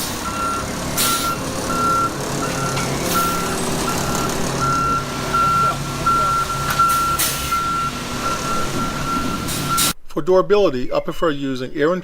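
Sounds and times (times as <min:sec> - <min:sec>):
diesel engine rumble: 0:00.0 - 0:10.0
truck backup alarm beeping: 0:00.0 - 0:10.0.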